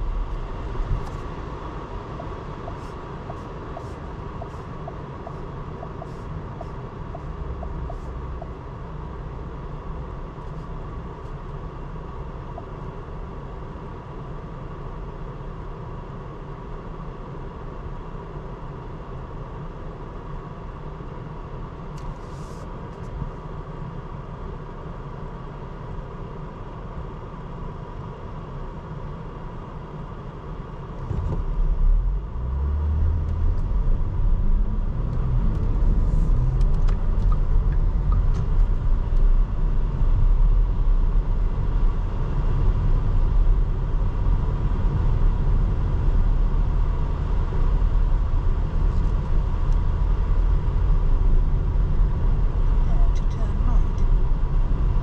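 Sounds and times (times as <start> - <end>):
low engine hum: 0.0 - 55.0
road and tyre noise: 0.0 - 55.0.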